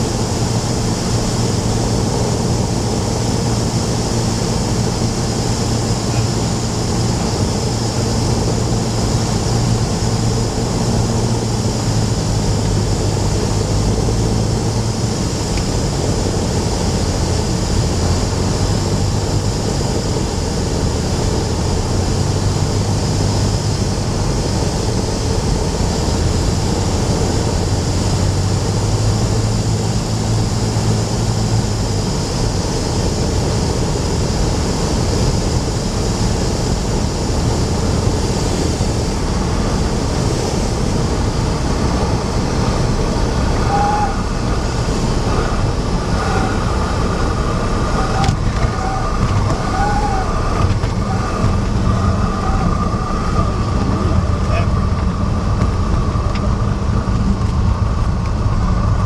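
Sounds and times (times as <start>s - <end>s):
aircraft engine and air rush: 0.0s - 59.0s
low engine drone: 0.0s - 59.0s.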